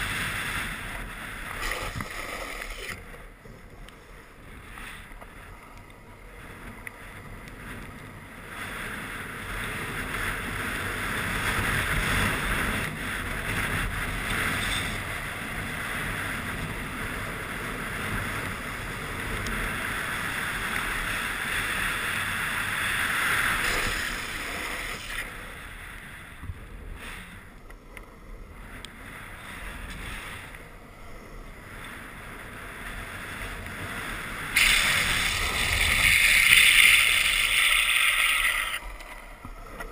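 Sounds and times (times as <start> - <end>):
skateboard wheels rolling on asphalt: 0.0 - 39.9
wind rushing over microphone: 0.0 - 39.9.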